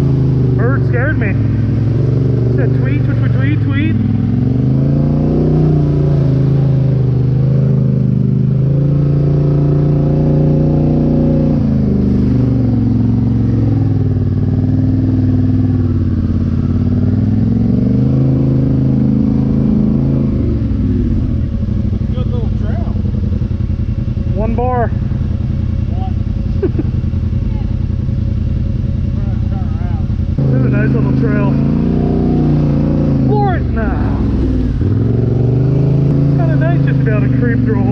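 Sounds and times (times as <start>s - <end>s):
atv engine revving while riding: 0.0s - 37.9s.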